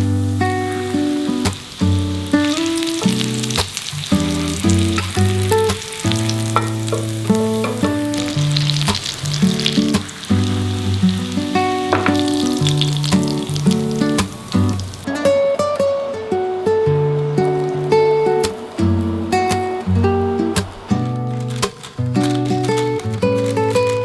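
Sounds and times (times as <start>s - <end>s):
food sizzling in a pan: 0.0s - 21.1s
plucked-string music: 0.0s - 24.0s.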